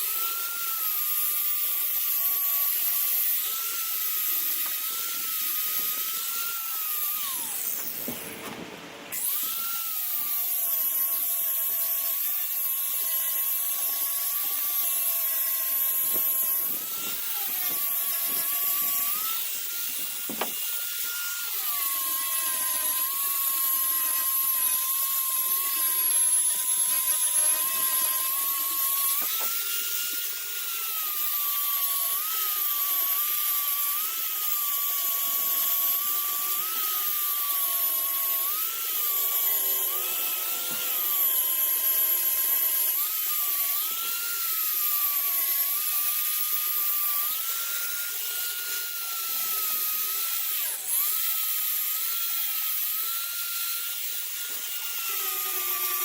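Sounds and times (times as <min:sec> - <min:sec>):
sander whining: 0:00.0 - 0:56.0.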